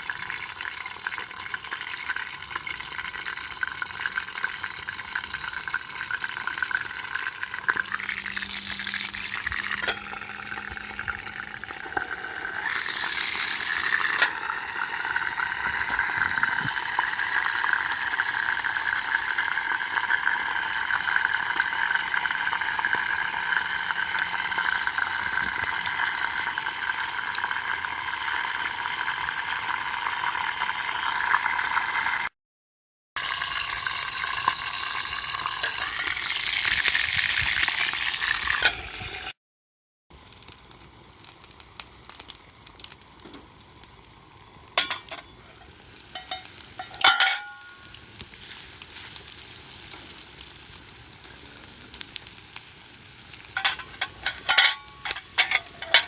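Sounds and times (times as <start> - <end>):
fire crackles: 0.0 - 29.5, 40.1 - 56.0
food sizzling over campfire: 0.0 - 32.4, 33.2 - 39.4, 40.1 - 56.0.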